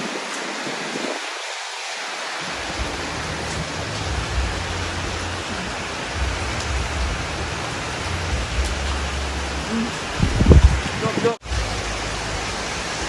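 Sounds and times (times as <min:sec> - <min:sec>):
heavy rain pouring: 0:00.0 - 0:13.0
wind rumbling on microphone: 0:02.4 - 0:13.0.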